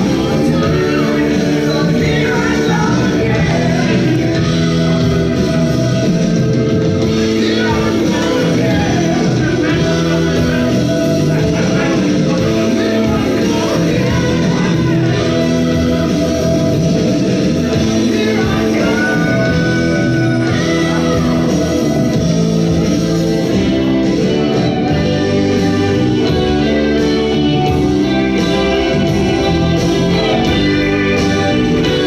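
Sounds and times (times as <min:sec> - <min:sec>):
guitar: 0:00.0 - 0:32.0
person singing: 0:00.0 - 0:32.0.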